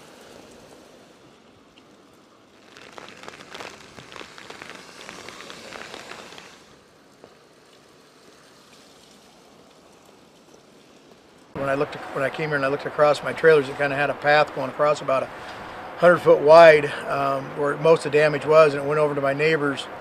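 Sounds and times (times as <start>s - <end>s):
dense crackling patter: 0.0s - 16.2s
steady rain-like hiss: 0.0s - 20.0s.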